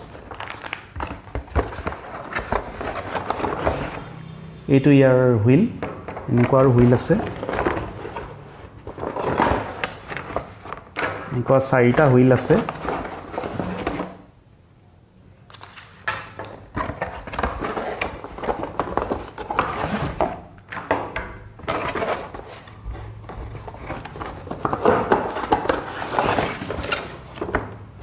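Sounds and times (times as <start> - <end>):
packaging rustling: 0.0 - 4.2, 6.0 - 14.2, 15.5 - 20.5, 21.6 - 27.6.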